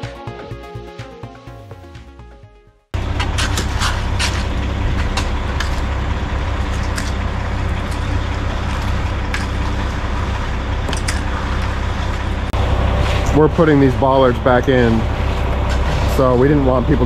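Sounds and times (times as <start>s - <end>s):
heavy diesel engine running: 3.0s - 17.0s.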